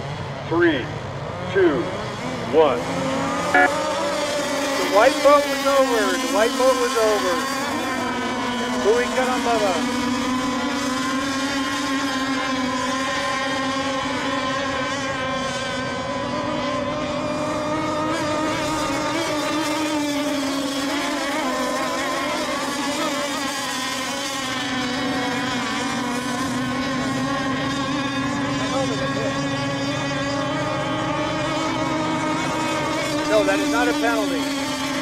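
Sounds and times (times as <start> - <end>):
high buzzing boat motors: 0.0 - 35.0.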